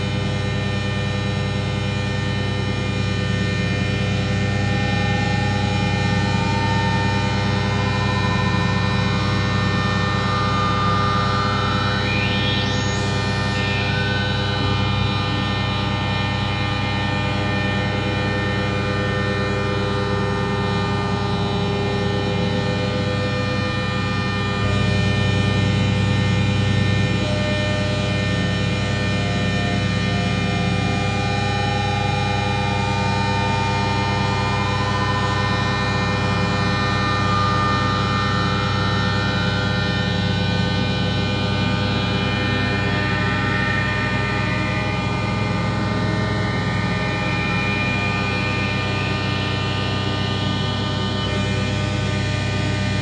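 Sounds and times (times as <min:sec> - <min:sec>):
electronic drone music: 0:00.0 - 0:53.0.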